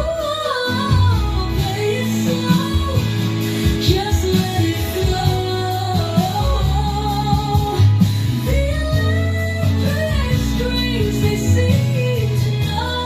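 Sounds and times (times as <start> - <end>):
pop song over speakers: 0.0 - 13.0.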